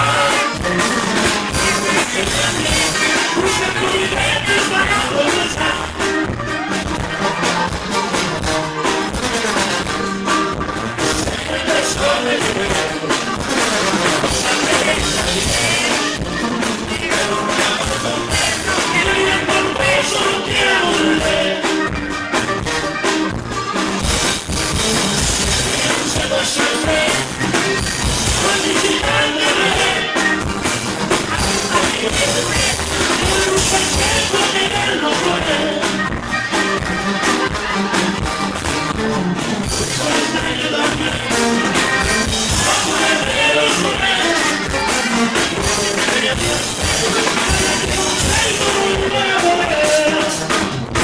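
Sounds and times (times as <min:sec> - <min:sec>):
person singing: 0:00.0 - 0:08.2, 0:11.0 - 0:22.2, 0:24.8 - 0:30.4, 0:31.1 - 0:38.0, 0:39.6 - 0:50.6
drums steady beat: 0:00.0 - 0:51.0
rock band playing: 0:00.0 - 0:51.0.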